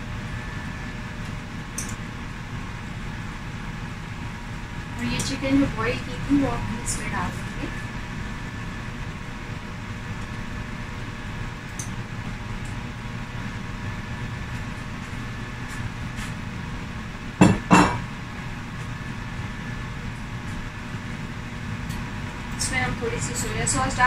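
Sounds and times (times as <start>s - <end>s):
kitchen hum: 0.0s - 24.0s.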